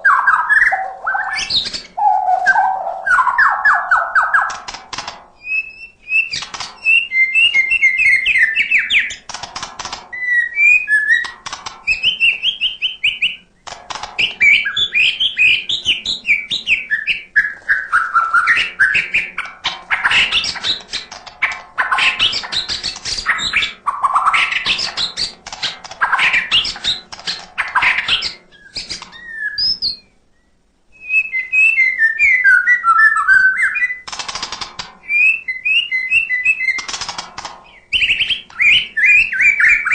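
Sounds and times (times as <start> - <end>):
songbird singing whistled phrases: 0.0 - 4.6, 5.4 - 9.2, 10.1 - 13.5, 14.2 - 20.9, 21.8 - 25.3, 26.0 - 34.0, 35.0 - 36.9, 37.7 - 39.9
sharp bird clicking notes: 0.1 - 30.0, 33.0 - 39.9.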